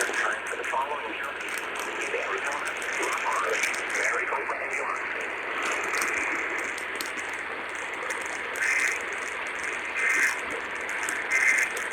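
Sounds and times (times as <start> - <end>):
radio static hiss: 0.0 - 11.9.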